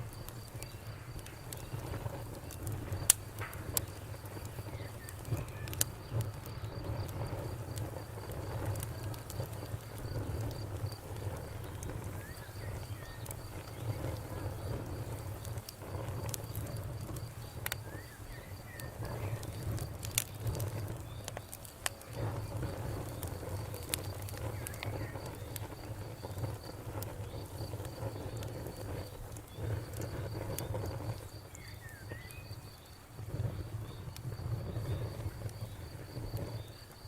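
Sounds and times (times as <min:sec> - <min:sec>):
insect trill: 0:00.0 - 0:37.0
wood fire crackling: 0:00.0 - 0:37.0.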